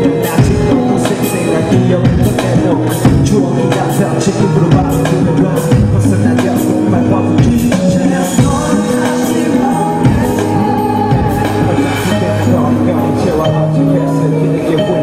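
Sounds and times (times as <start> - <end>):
man singing into microphone: 0.0 - 15.0
pop backing track with beat: 0.0 - 15.0.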